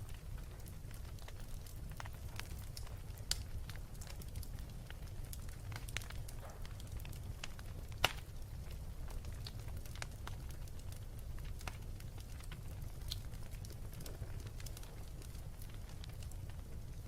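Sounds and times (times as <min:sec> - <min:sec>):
fire crackling and popping: 0:00.0 - 0:17.0
wood fire rumbling: 0:00.0 - 0:17.0.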